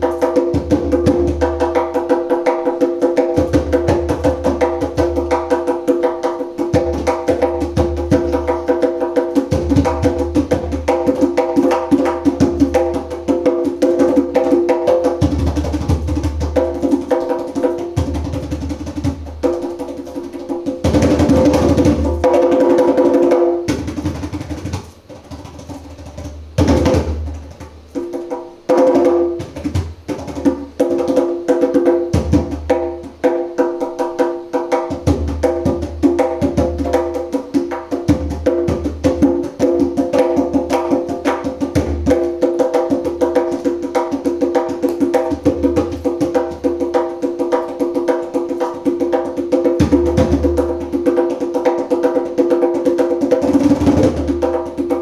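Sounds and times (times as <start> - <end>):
djembe played with bare hands: 0.0 - 55.0.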